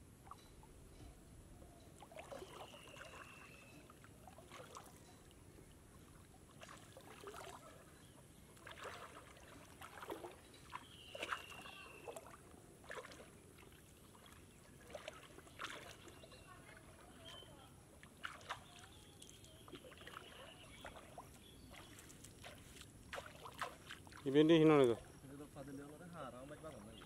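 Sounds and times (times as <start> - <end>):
shallow water splashing: 2.0 - 27.0.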